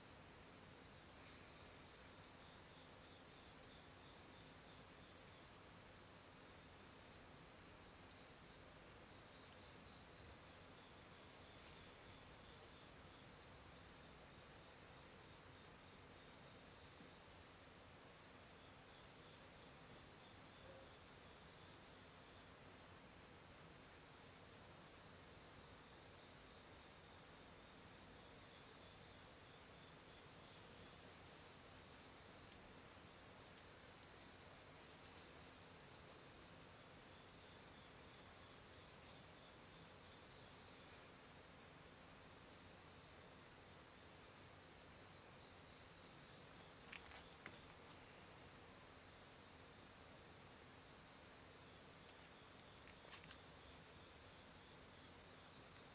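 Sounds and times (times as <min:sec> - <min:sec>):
insect chirping in sharp pulses: 0:00.0 - 0:55.9
night insects chirping: 0:00.0 - 0:55.9.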